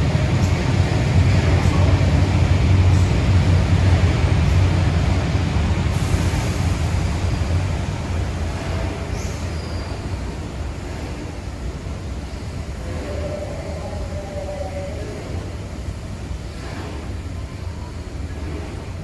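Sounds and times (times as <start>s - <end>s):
train running on rails: 0.0s - 19.0s.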